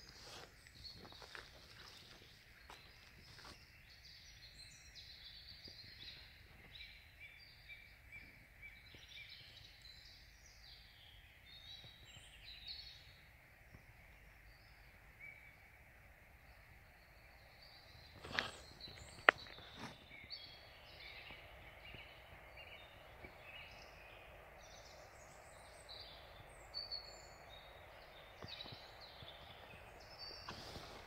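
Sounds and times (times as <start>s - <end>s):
low outdoor hum: 0.0s - 31.0s
small birds chirping: 0.0s - 31.0s.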